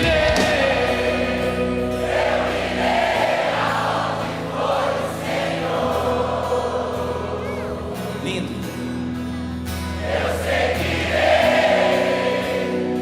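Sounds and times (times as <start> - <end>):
choir singing: 0.0 - 8.6, 9.7 - 13.0.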